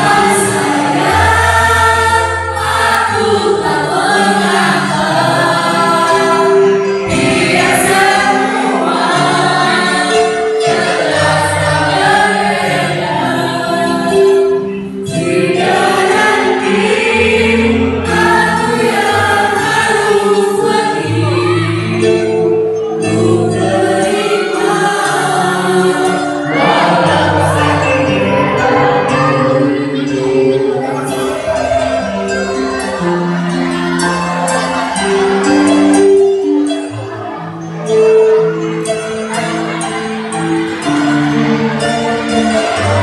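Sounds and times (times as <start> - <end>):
choir singing: 0.0 - 43.0
instrumental accompaniment: 0.0 - 43.0.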